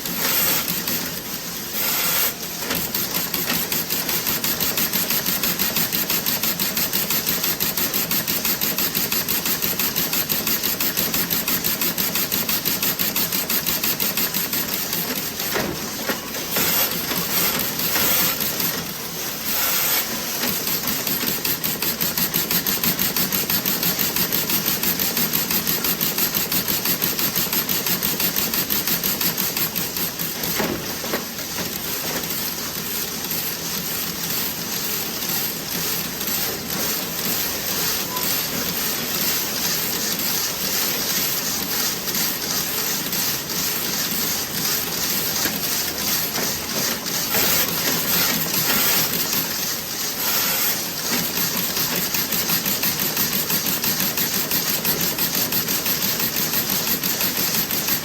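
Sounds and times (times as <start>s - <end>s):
knitting machine clatter: 0.0s - 58.0s.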